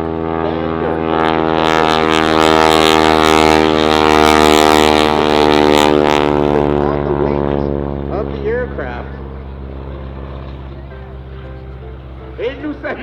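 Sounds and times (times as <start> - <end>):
biplane engine drone passing: 0.0 - 13.0.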